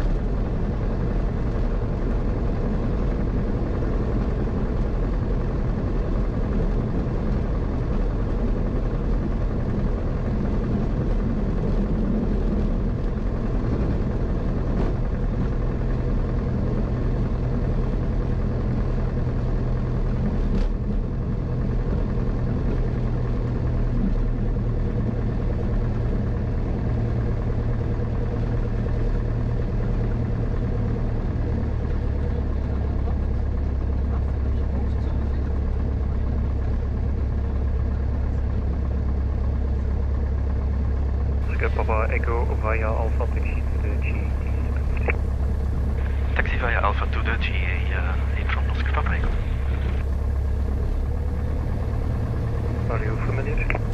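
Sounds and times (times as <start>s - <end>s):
light aircraft engine and propeller: 0.0s - 53.9s.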